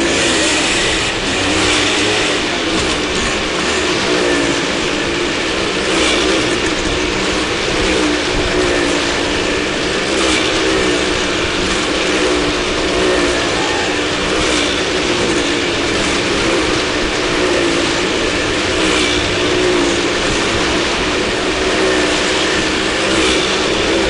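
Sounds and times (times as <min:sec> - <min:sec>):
mechanical rattle and clatter: 0:00.0 - 0:13.4, 0:14.0 - 0:24.0
small car engines running: 0:00.0 - 0:24.0.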